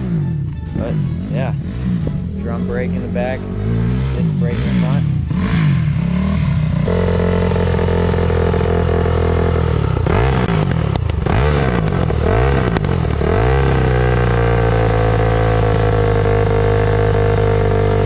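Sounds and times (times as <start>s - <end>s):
dirt bike engine idling: 0.0s - 18.0s.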